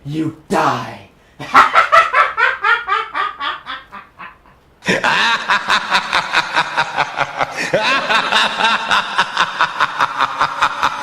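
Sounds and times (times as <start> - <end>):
exaggerated laughter: 1.4 - 11.0.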